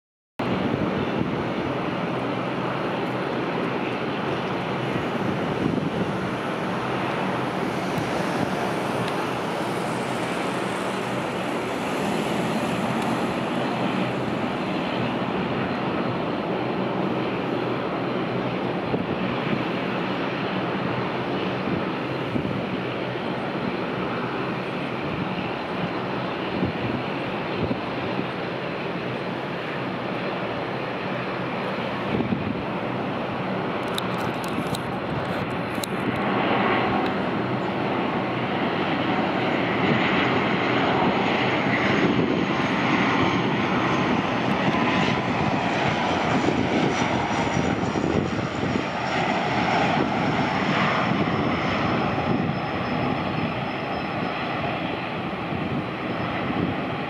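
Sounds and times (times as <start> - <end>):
turboprop engines droning: 0.4 - 57.0.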